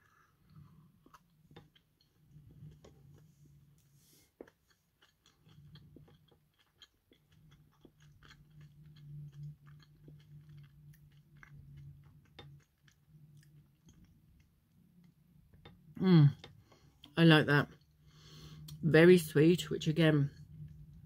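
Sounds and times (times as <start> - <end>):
low steady hum: 0.0 - 21.0
person chewing with mouth clicks: 0.1 - 17.2.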